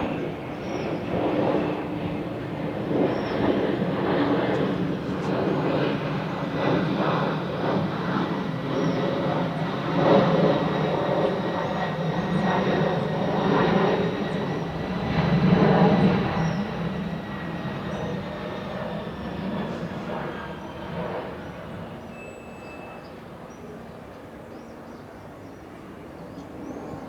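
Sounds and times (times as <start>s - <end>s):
jet engines rumbling and whining: 0.0s - 27.0s.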